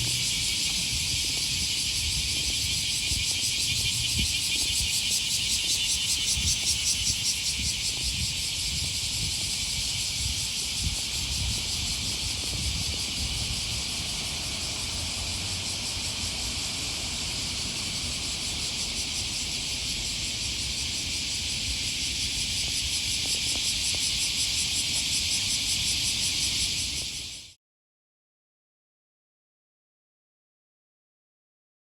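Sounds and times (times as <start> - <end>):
cicadas buzzing: 0.0 - 27.6.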